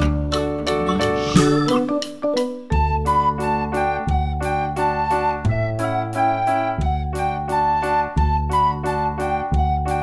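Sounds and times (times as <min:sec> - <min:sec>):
keyboard music with bass and beat: 0:00.0 - 0:10.0.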